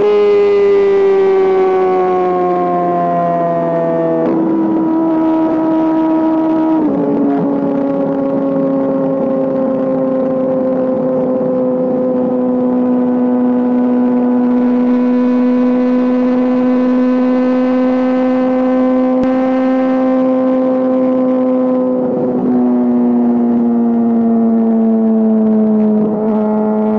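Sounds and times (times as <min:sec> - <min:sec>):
motorcycle engine at high rpm: 0:00.0 - 0:26.9.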